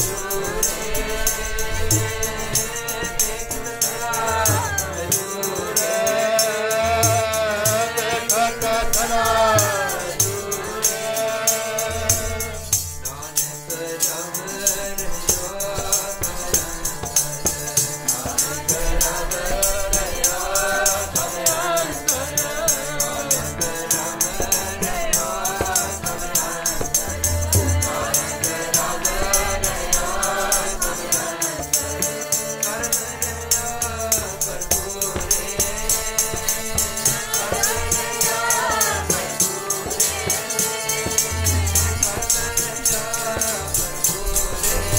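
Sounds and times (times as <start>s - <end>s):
fast jingling percussion beat: 0.0s - 44.9s
harmonium: 0.0s - 44.9s
voices singing: 0.0s - 44.9s.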